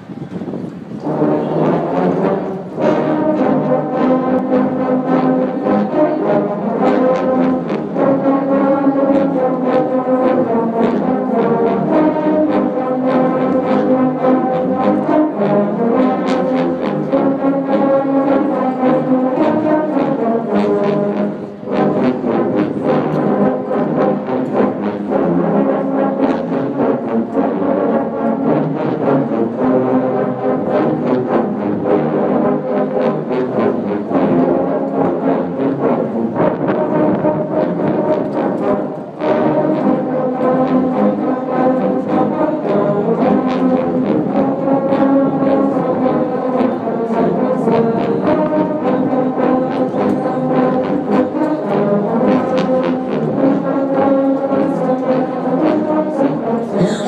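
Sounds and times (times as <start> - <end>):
massed tubas playing holiday song: 0.0 - 57.0.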